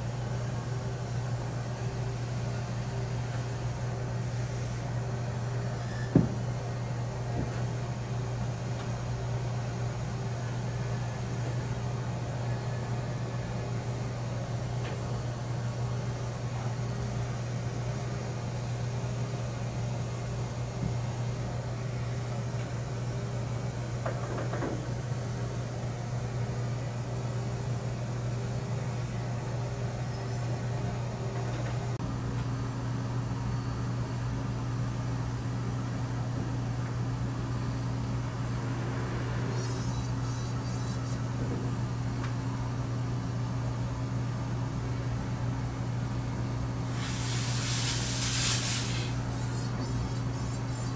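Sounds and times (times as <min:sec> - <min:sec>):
small machine humming: 0:00.0 - 0:50.9.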